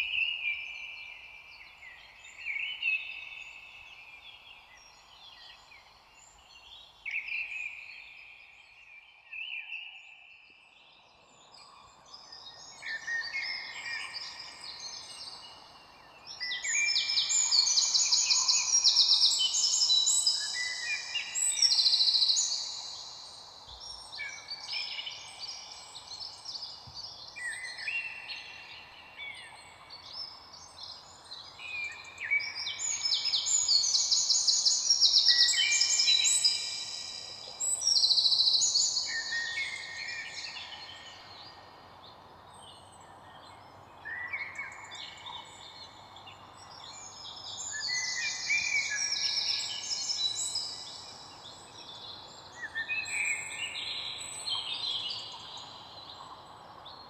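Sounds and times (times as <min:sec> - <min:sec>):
faint background hiss: 0:00.0 - 0:57.0
small birds chirping and trilling: 0:00.0 - 0:57.0.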